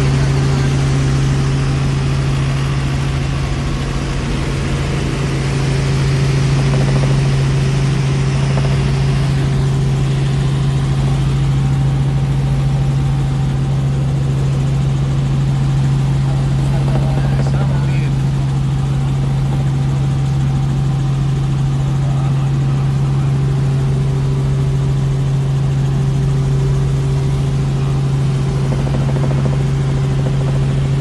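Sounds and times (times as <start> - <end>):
helicopter engine and rotor drone: 0.0 - 31.0.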